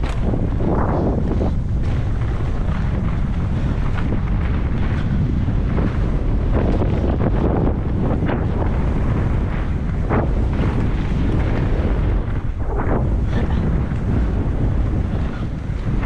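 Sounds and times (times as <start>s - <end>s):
bike rattling and knocking: 0.0s - 16.0s
wind buffeting microphone: 0.0s - 16.0s.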